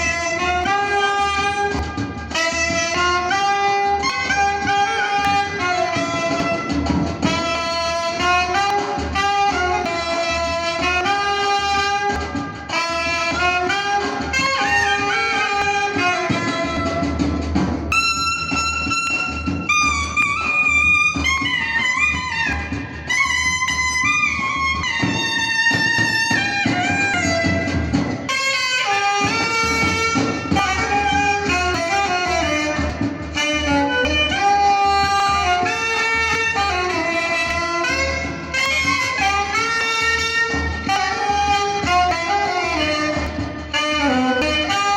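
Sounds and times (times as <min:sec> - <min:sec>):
steady low beat: 0:00.0 - 0:25.8, 0:26.4 - 0:44.9
reed wind instrument melody: 0:00.0 - 0:44.9.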